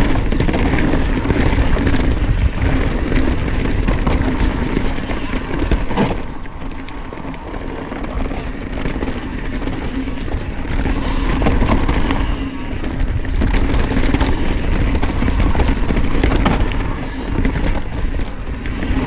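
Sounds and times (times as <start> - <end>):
bike clicks and rattles: 0.0 - 19.0
tyres rolling over dirt trail: 0.0 - 19.0
wind buffeting microphone: 0.0 - 19.0.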